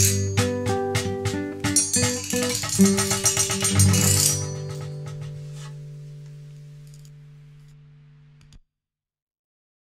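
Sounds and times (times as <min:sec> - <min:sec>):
acoustic song held note: 0:00.0 - 0:08.4.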